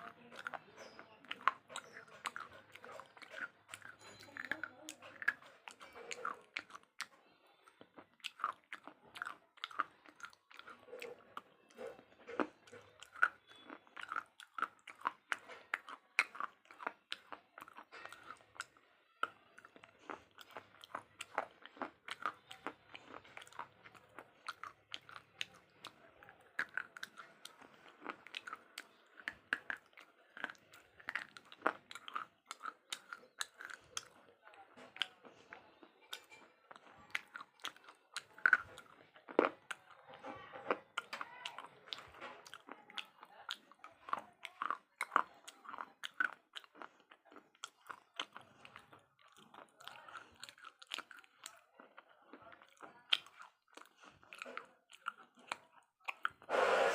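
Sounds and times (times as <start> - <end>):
crunching slate while chewing: 0.0 - 56.6.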